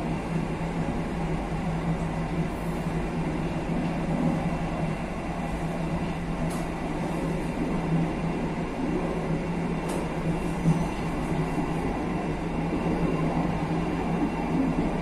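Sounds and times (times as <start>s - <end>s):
constant low hum: 0.0s - 15.0s
wheels rumbling on rail: 0.0s - 15.0s.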